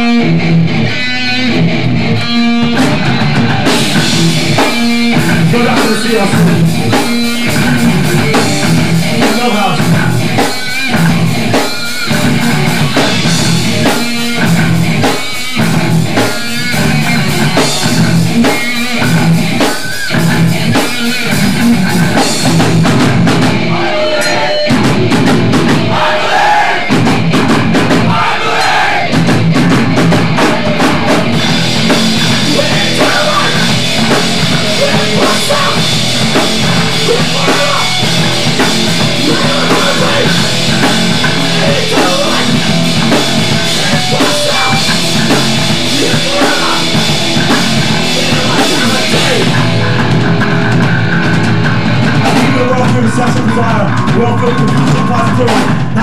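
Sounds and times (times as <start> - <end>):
hardcore punk band playing: 0.0 - 56.0.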